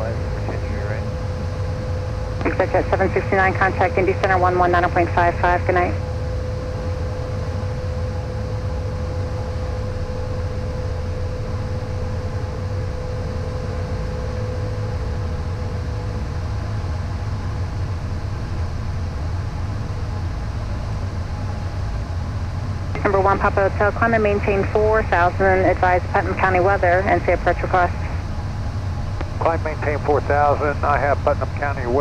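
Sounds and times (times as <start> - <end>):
jet engine and airflow rumble: 0.0 - 32.0.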